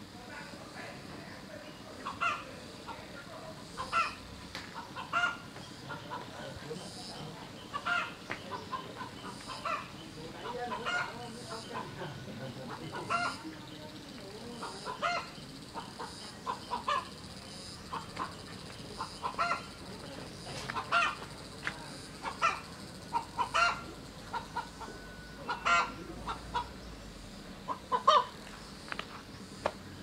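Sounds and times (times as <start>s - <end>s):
chickens clucking: 1.8s - 26.9s, 27.6s - 29.8s.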